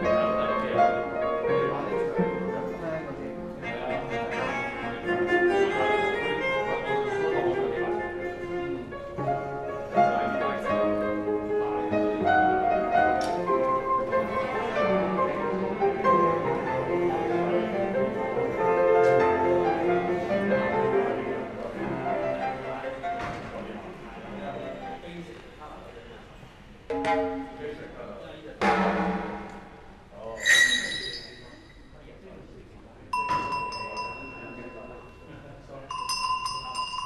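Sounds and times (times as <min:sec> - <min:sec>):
classical strings and piano: 0:00.0 - 0:35.9.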